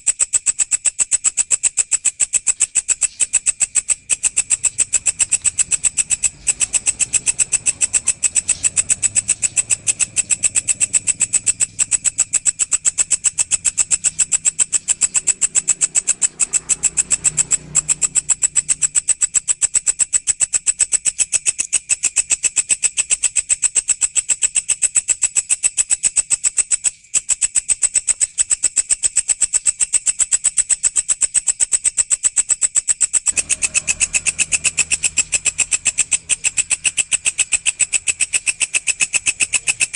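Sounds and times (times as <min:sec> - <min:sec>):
insect high-pitched pulsing trill: 0:00.0 - 0:39.9.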